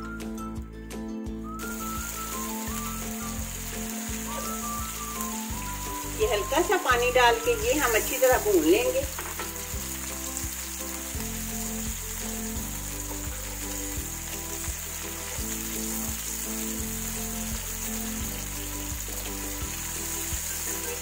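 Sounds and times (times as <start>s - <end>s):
soft background music: 0.0s - 21.0s
food sizzling in a pan: 1.6s - 21.0s.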